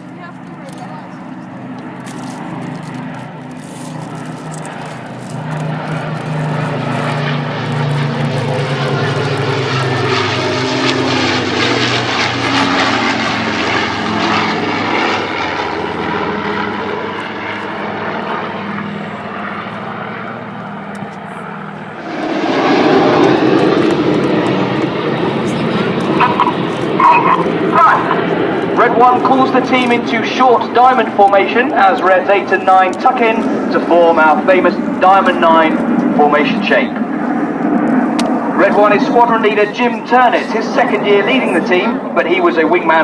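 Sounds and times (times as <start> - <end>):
aircraft engines droning: 0.0 - 43.0.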